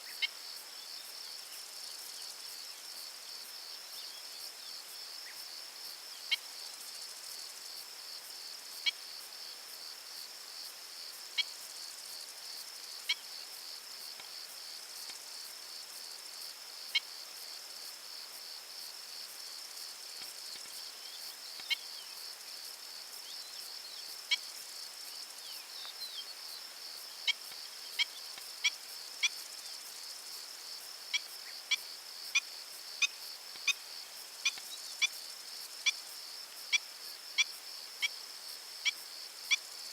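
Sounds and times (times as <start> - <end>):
insect chorus pulsing: 0.0 - 39.9.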